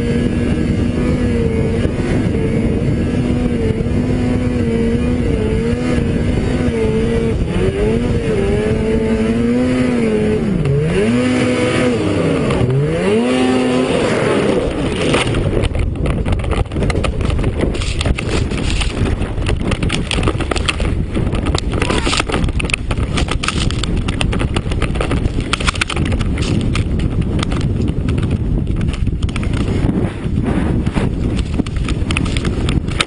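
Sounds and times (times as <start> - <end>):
rough rushing noise with crackles: 0.0 - 33.0
snowmobile engine running: 0.0 - 33.0.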